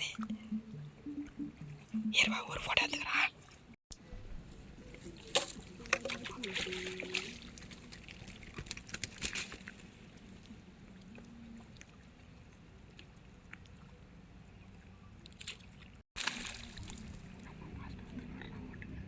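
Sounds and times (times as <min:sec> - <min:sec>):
faint outdoor ambience: 0:00.0 - 0:19.0
water splashing and sloshing: 0:02.9 - 0:19.0.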